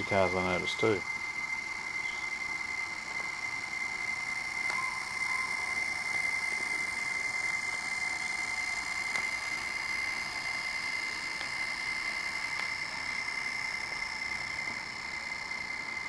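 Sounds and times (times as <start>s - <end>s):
model train motor whine: 0.0s - 16.0s.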